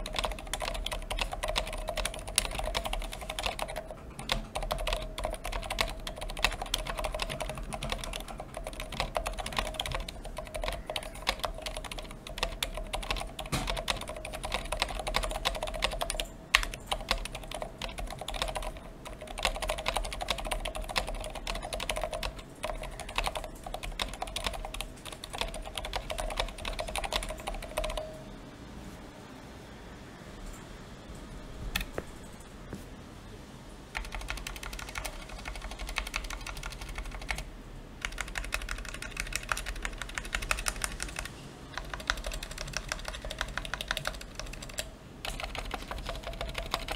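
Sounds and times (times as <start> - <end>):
fast mechanical keyboard typing: 0.0 - 28.1, 34.0 - 46.9.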